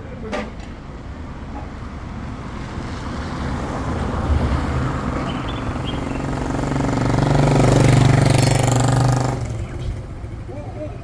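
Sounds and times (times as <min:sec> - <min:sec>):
vehicle engine approaching: 0:02.2 - 0:11.0.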